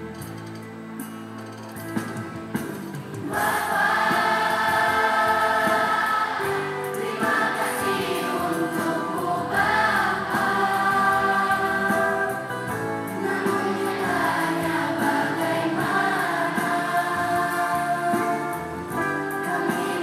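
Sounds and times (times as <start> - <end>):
children's choir singing: 3.2 - 20.0.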